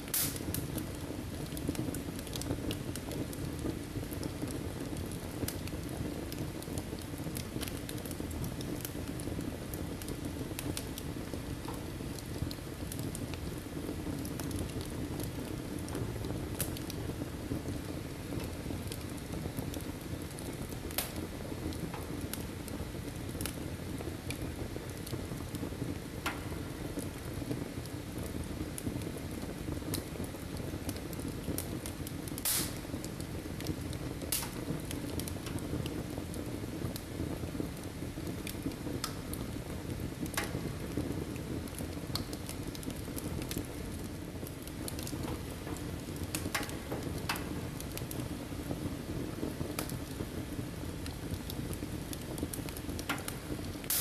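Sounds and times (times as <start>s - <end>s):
fire crackling and popping: 0.0s - 54.0s
low rush of fire: 0.0s - 54.0s.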